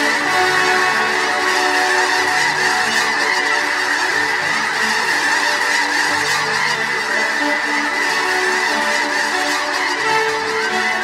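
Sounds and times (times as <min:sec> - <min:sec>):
flock of geese honking: 0:00.0 - 0:11.0.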